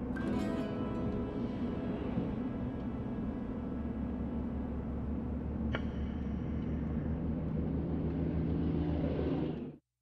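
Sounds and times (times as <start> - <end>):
vehicle engine and road rumble: 0.0 - 9.9.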